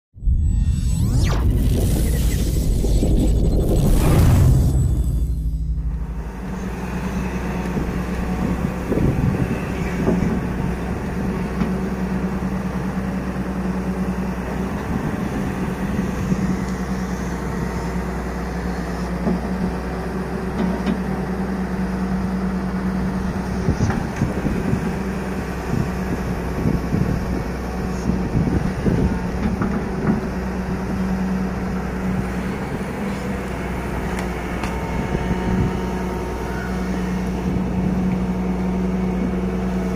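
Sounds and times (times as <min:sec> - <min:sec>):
excavator diesel engine running: 0:00.5 - 0:39.9.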